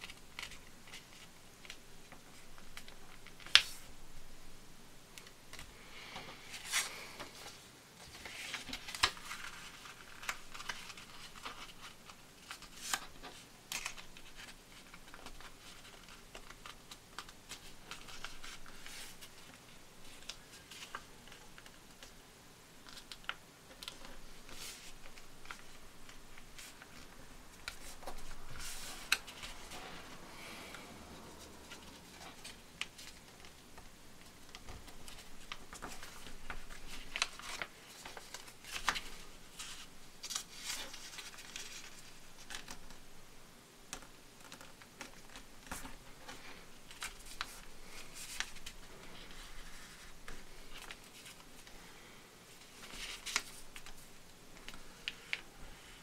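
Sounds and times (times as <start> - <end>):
fingers tapping paper folds: 0.0 - 3.8, 8.2 - 22.2, 22.8 - 30.2, 31.6 - 43.0, 43.9 - 51.8, 52.7 - 56.0
paper rustling and crinkling: 0.0 - 4.0, 5.2 - 22.2, 22.8 - 43.1, 43.9 - 51.9, 52.5 - 56.0.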